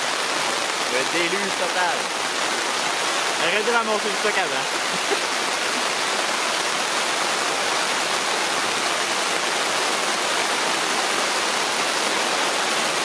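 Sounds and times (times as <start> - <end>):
heavy rain on a tent: 0.0 - 13.0.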